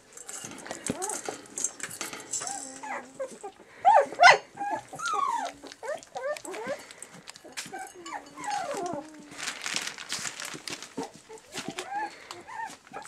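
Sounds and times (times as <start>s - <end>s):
kibble rattling in steel bowl: 0.0s - 3.5s, 5.1s - 13.0s
puppies whimpering and squeaking: 0.3s - 13.0s.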